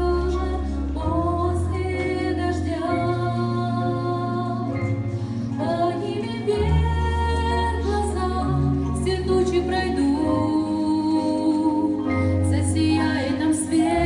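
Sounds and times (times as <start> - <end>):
instrumental backing with bass: 0.0 - 14.0.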